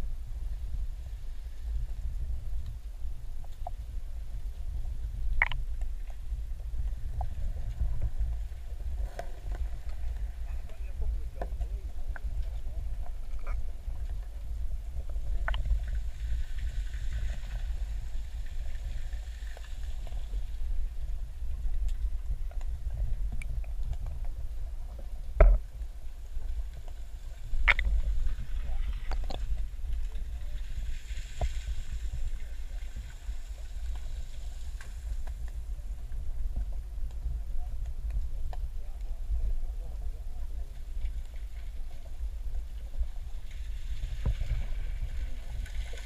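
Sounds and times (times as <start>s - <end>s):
low underwater rumble: 0.0s - 46.0s.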